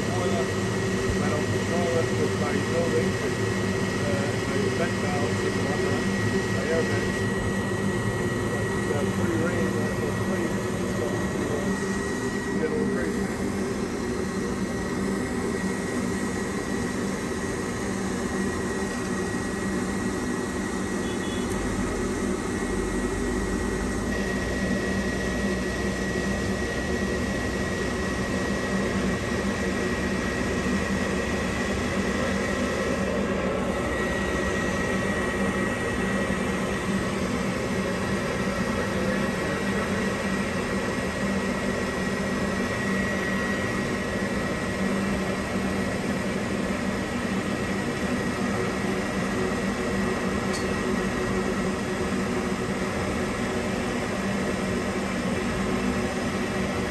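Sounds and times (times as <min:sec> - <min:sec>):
boiler burner blower hum: 0:00.0 - 0:56.9
constant high whine: 0:00.0 - 0:56.9.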